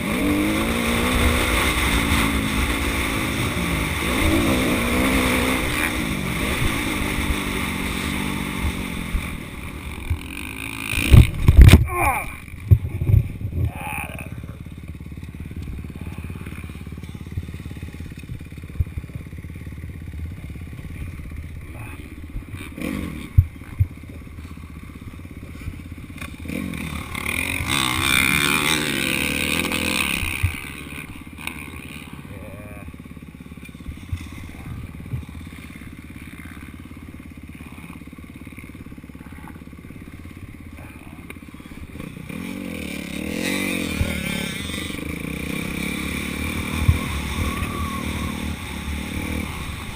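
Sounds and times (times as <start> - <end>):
motocross bike engines: 0.0 - 49.9.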